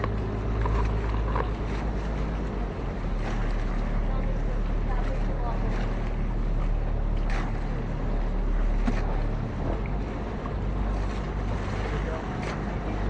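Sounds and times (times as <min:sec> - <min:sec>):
boat engine running: 0:00.0 - 0:13.0
sea water washing along hull: 0:00.0 - 0:13.0
water splashes: 0:00.0 - 0:13.0.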